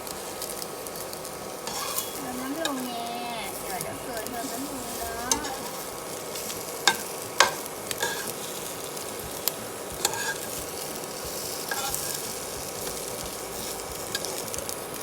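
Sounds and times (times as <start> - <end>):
bread sizzling in frying pan: 0.0 - 15.0.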